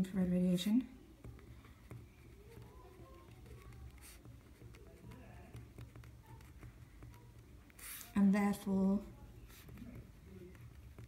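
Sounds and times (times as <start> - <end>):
pen scratching on paper: 1.2 - 11.0.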